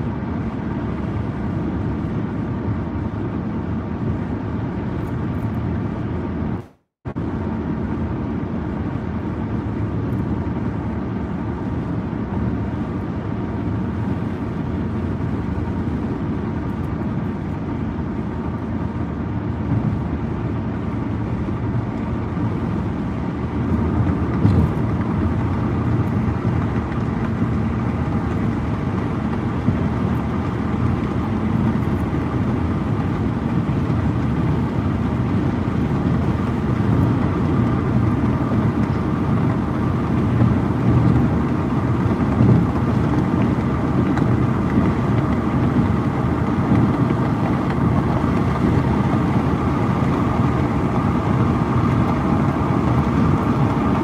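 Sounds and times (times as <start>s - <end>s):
car cabin road noise: 0.0s - 54.0s.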